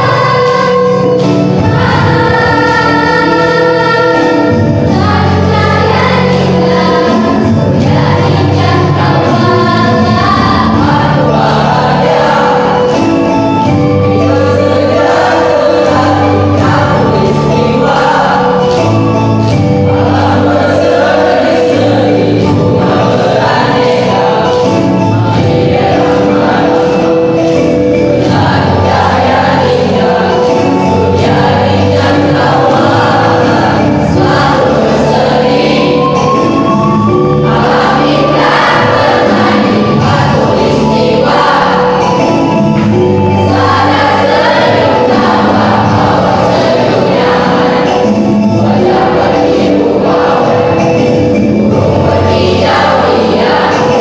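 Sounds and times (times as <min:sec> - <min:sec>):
choir singing in parts: 0:00.0 - 0:54.0.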